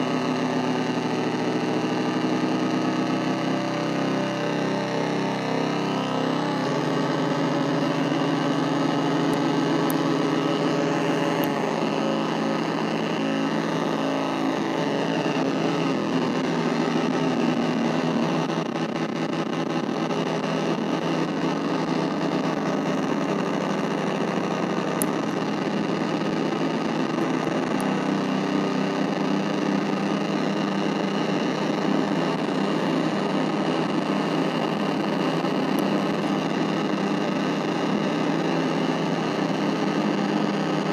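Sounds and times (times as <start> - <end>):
analog synthesizer drone: 0.0 - 40.9.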